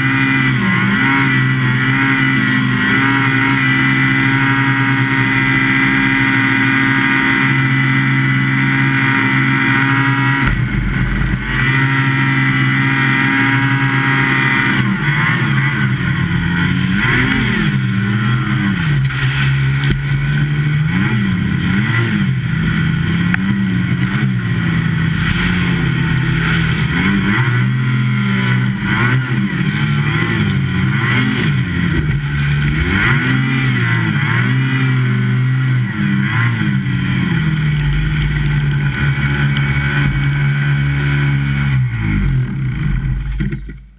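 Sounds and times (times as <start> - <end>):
snowmobile engine revving: 0.0 - 43.8.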